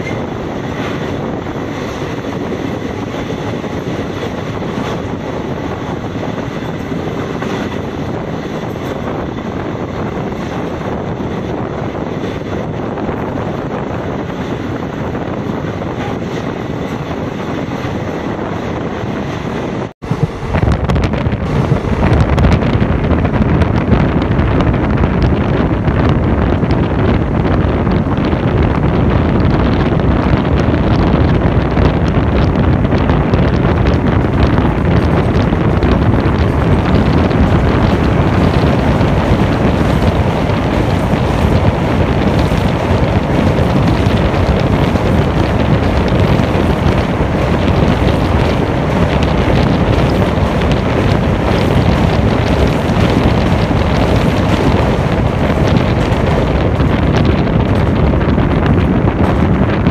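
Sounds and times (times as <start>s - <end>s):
train running at speed: 0.0s - 59.9s
wind buffeting microphone: 0.0s - 59.9s.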